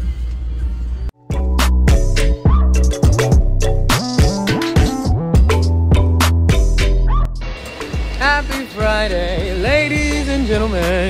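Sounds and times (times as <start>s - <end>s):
music playing: 0.2s - 11.0s
song with chords and percussion: 1.2s - 11.0s.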